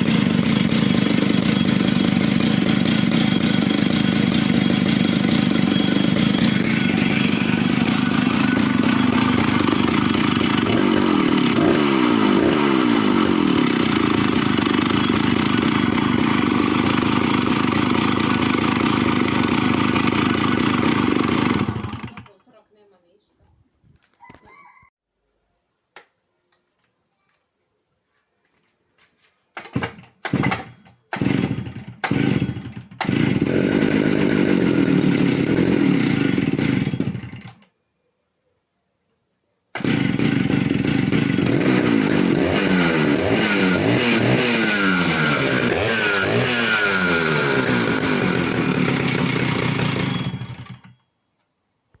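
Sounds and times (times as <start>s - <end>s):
chainsaw engine running: 0.0s - 22.6s, 29.6s - 37.7s, 39.7s - 51.0s.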